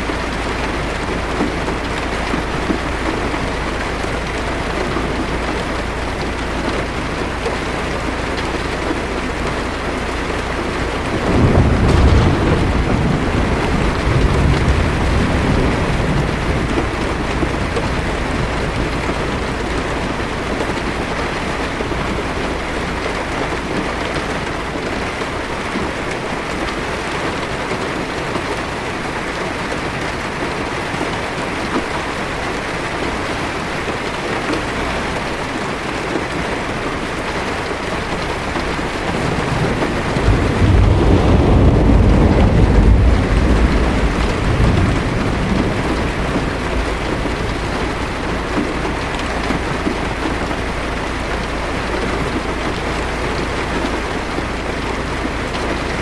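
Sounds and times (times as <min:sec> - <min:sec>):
heavy rain on a car roof: 0:00.0 - 0:56.0
thunder rumbling: 0:00.0 - 0:56.0.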